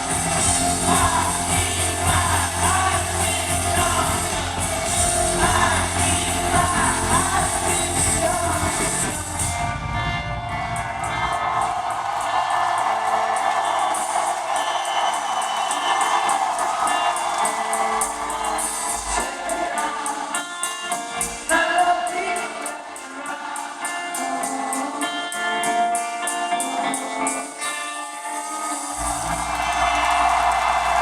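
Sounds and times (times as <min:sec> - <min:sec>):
person singing: 0:00.0 - 0:11.4, 0:12.2 - 0:30.3
live rock band: 0:00.0 - 0:31.0.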